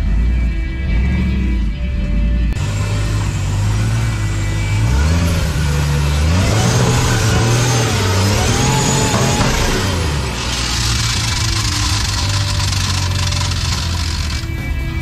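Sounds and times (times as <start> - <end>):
car engine revving under load: 0.0 - 14.7.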